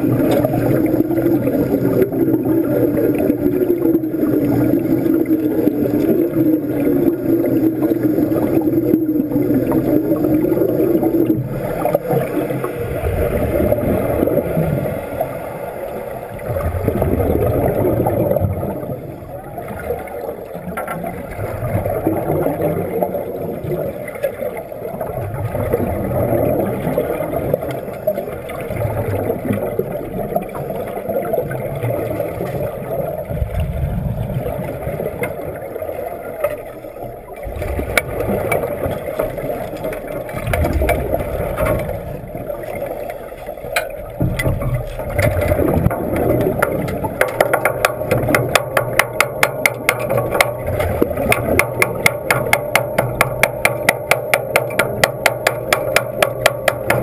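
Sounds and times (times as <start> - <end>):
underwater bubbling and gurgling: 0.0 - 57.0.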